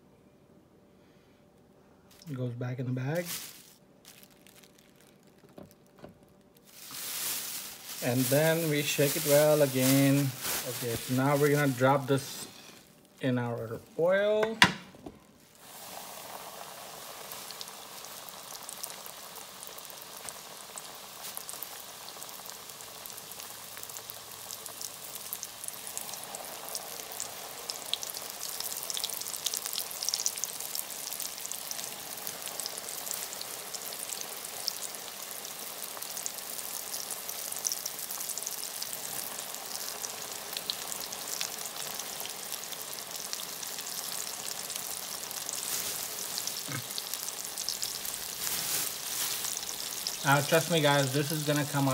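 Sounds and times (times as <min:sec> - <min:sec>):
oil sizzling with crackling pops: 0:03.2 - 0:51.9.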